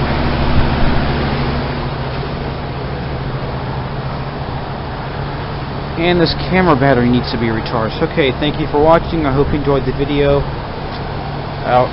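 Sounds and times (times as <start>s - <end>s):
fan whoosh: 0.0s - 11.9s
low compressor hum: 0.0s - 11.9s.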